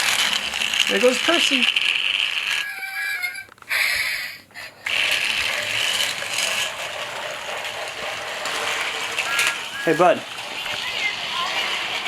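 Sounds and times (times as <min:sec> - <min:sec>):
rattle of toy train wheels: 0:00.0 - 0:12.0
toy train motor whirring: 0:00.0 - 0:12.0.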